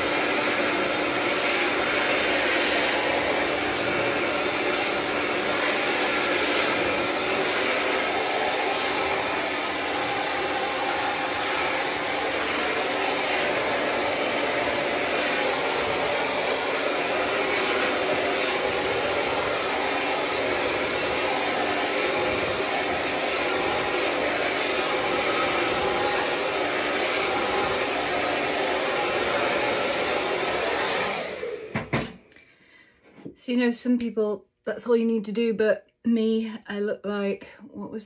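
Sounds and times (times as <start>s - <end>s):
hair dryer running: 0.0s - 32.4s.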